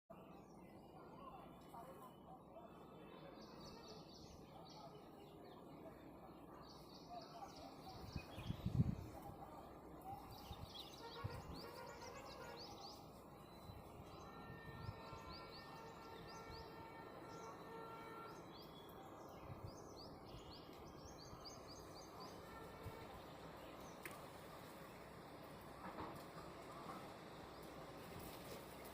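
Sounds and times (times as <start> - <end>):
low steady background noise: 0.1 - 28.9.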